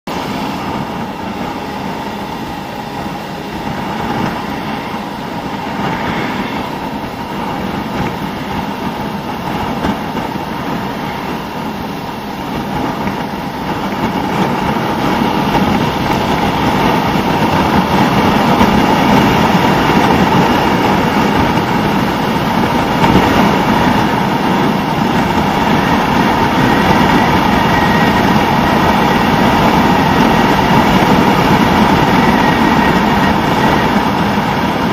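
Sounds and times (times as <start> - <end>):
motorcycle engine running: 0.1 - 34.9
wind and road rush: 0.1 - 34.9.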